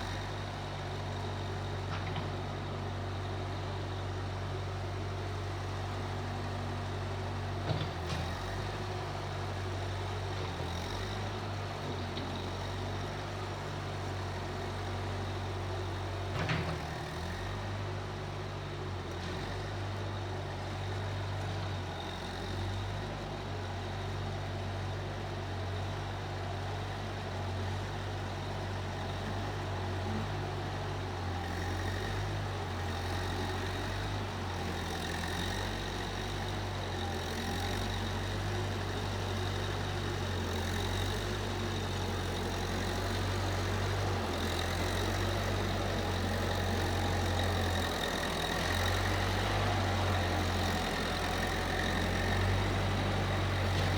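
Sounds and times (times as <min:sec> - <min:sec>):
skid steer engine idling: 0:00.0 - 0:53.9.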